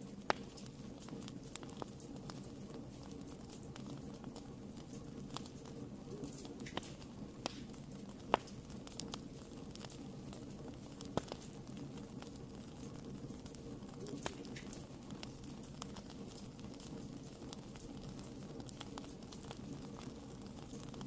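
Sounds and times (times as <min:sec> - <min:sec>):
low rush of flames: 0:00.0 - 0:21.0
sharp fire pops: 0:00.0 - 0:21.0
wood fire crackling: 0:00.0 - 0:21.0.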